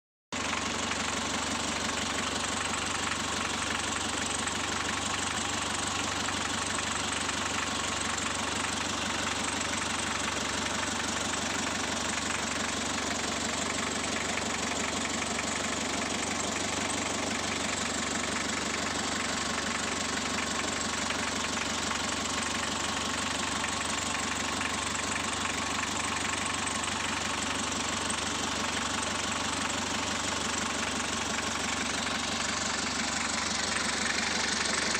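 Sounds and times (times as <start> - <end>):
diesel engine idling: 0.4 - 34.9.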